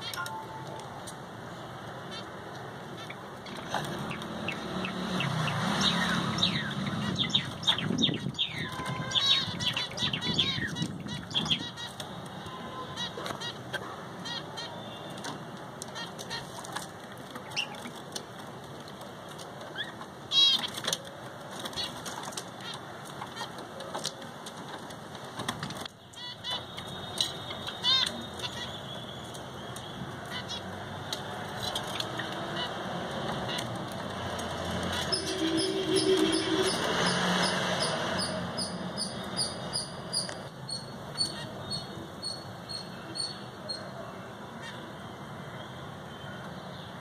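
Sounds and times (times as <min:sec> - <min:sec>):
parrots chirping and chattering: 0:00.0 - 0:00.9, 0:02.0 - 0:15.2, 0:15.8 - 0:18.5, 0:19.6 - 0:24.2, 0:25.8 - 0:44.0.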